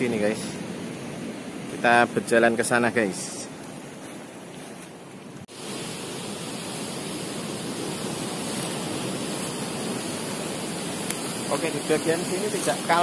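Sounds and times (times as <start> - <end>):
ocean surf on rocky shore: 0.0 - 13.0.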